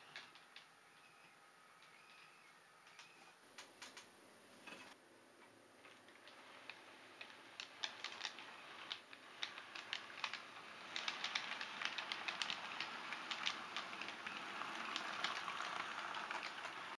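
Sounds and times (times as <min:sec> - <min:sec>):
model train rolling noise: 0:00.0 - 0:03.2, 0:04.6 - 0:17.0
model train wheels clicking: 0:00.0 - 0:04.1, 0:05.8 - 0:17.0.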